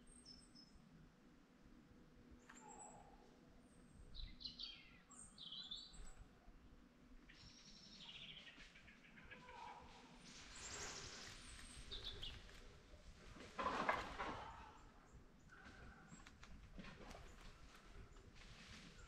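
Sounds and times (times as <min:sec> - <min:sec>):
faint birdsong chirping and twittering: 0:00.0 - 0:19.0.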